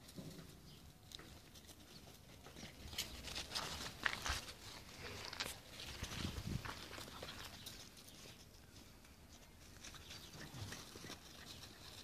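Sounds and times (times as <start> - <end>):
puppies scuffing and clicking: 0.0 - 12.0.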